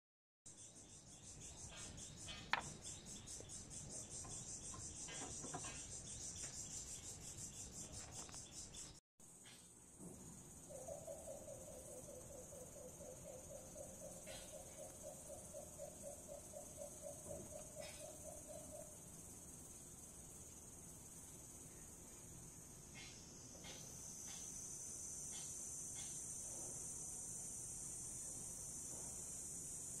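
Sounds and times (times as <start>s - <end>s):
insects chirping: 0.5s - 30.0s.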